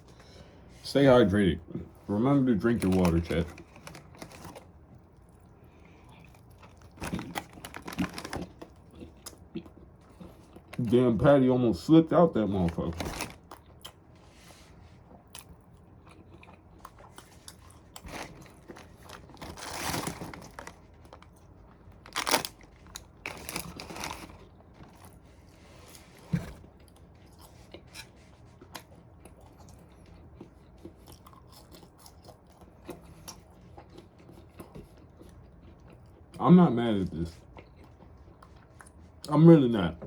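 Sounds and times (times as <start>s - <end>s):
chewing and biting food: 1.7s - 11.0s, 12.5s - 39.3s.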